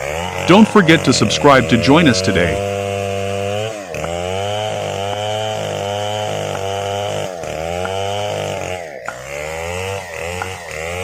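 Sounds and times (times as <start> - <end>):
chainsaw cutting: 0.0 - 11.0.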